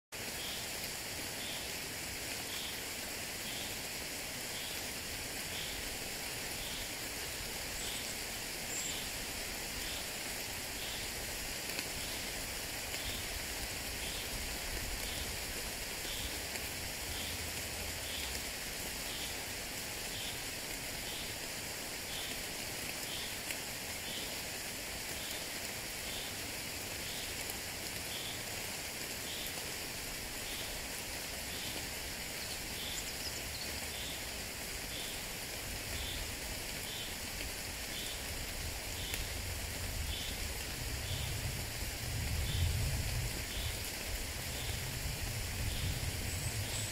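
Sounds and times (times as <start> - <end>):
gentle rain falling: 0.1 - 46.9.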